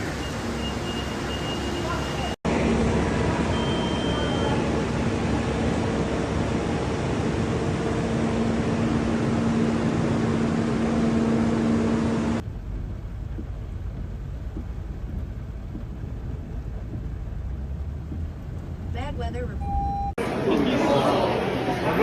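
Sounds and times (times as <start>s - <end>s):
low rumble: 2.5s - 20.2s.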